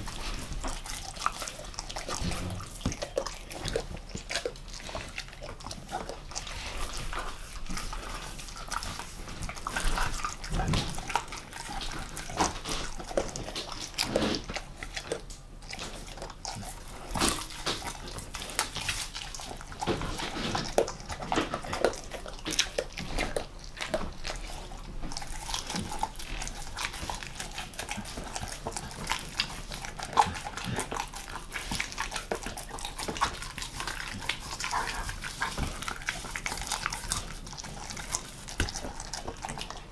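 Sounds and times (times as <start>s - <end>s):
dog chewing wet smacks: 0.0s - 39.9s.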